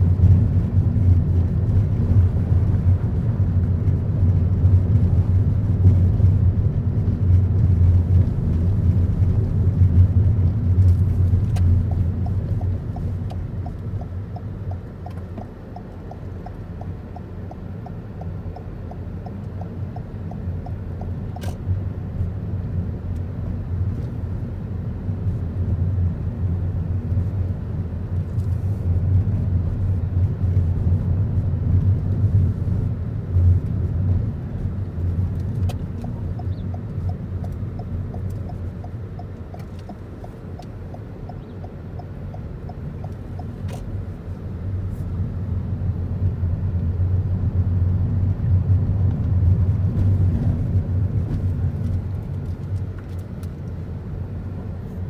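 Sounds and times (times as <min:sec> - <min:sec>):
car cabin rumble: 0:00.0 - 0:55.0.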